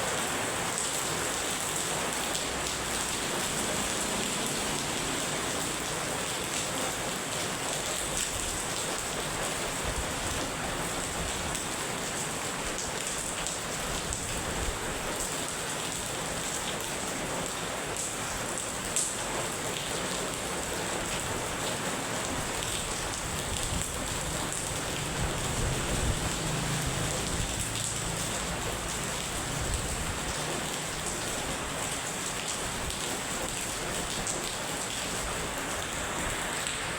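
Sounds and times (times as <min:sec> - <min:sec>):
heavy rain falling: 0:00.0 - 0:36.9.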